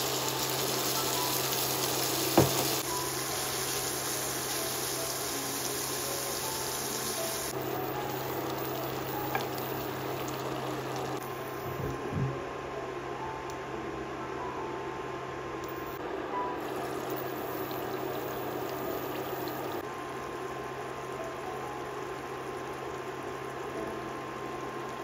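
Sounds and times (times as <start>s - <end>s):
food sizzling in a frying pan: 0.0s - 11.6s, 15.7s - 25.0s.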